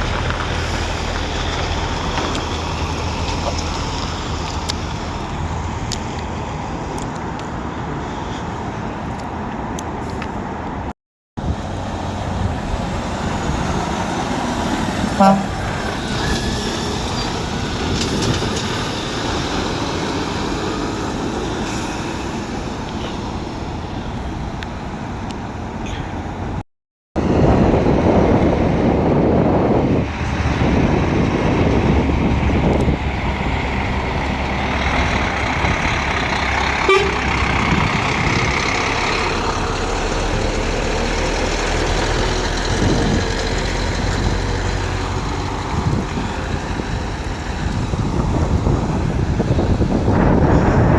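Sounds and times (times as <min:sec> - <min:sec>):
heavy engine running close: 0:00.0 - 0:09.2, 0:10.0 - 0:25.8, 0:27.2 - 0:50.9
lorry engines rumbling: 0:00.0 - 0:26.6, 0:27.2 - 0:50.9
road traffic noise: 0:00.0 - 0:26.6, 0:27.2 - 0:50.9.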